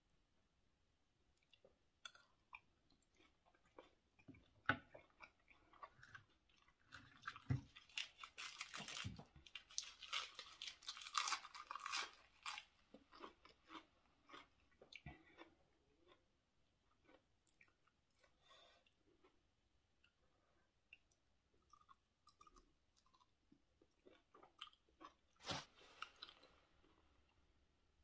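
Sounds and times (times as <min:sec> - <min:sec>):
chewing and crunching food: 0:01.4 - 0:27.5.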